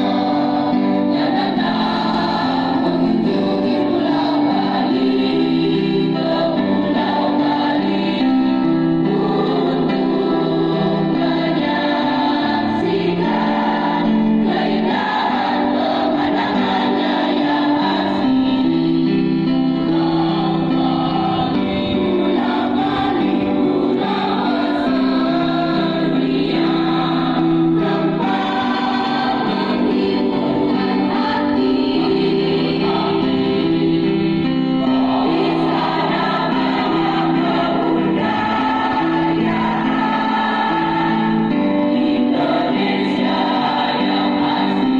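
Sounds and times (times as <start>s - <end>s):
choir singing sustained notes: 0.0s - 44.9s.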